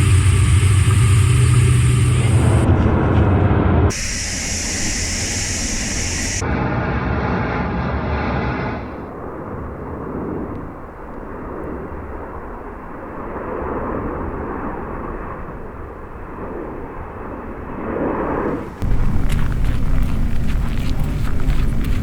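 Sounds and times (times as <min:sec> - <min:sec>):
aircraft engines droning: 0:00.0 - 0:22.0.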